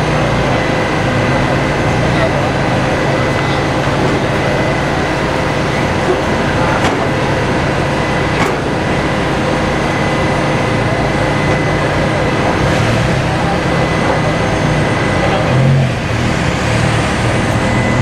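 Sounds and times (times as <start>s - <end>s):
voices in background: 0.0s - 16.1s
car engine idling: 0.0s - 18.0s.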